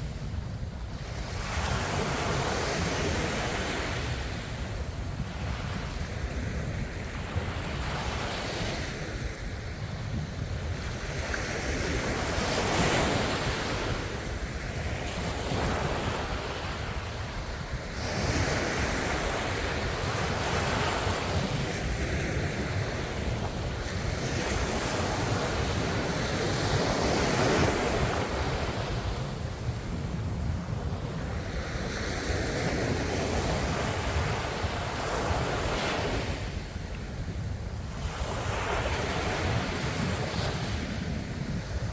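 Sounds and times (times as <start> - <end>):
low rumble of surf: 0.0 - 41.9
ocean waves breaking on shore: 0.0 - 41.9.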